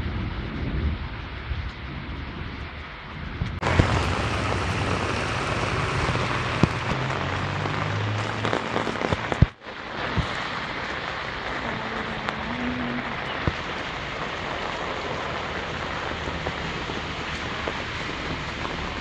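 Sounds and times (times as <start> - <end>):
heavy rain on water: 0.0 - 19.0
close rain drop hits: 0.1 - 19.0.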